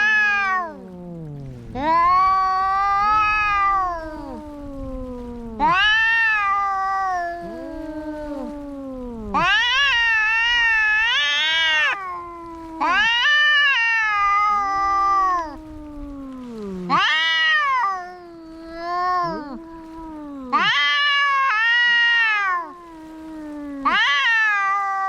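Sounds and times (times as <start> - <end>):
cats yowling in a fight: 0.0 - 25.0.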